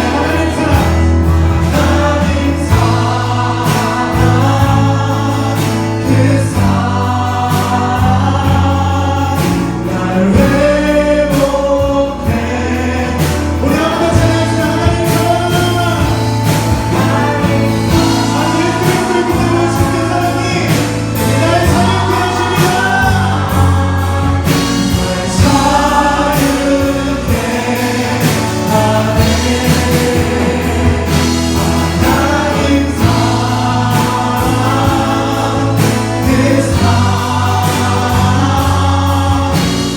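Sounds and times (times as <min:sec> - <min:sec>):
bass and drums: 0:00.0 - 0:39.9
voices singing worship song: 0:00.0 - 0:39.9.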